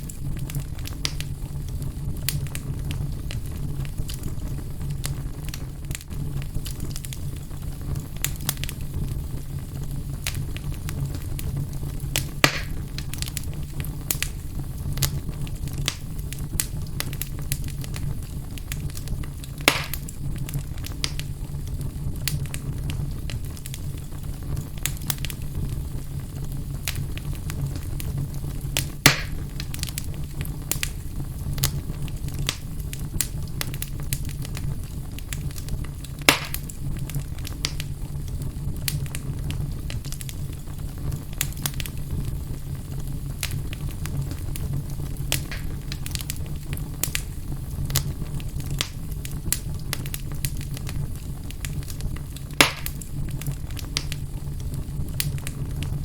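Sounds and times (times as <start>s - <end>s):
fireplace fire crackling: 0.0s - 56.0s
loud fire pops: 0.0s - 56.0s
low fire rumble: 0.0s - 56.0s.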